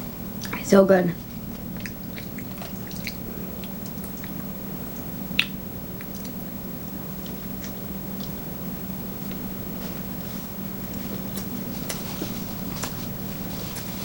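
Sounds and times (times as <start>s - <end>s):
person chewing food: 1.3s - 14.0s.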